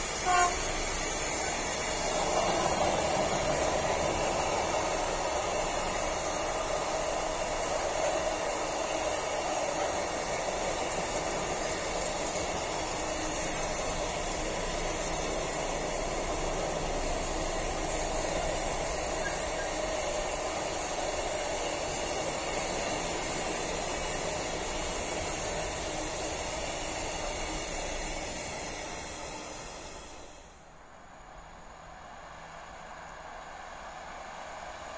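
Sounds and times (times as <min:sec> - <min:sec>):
freight train wheels on track: 0:00.0 - 0:34.9.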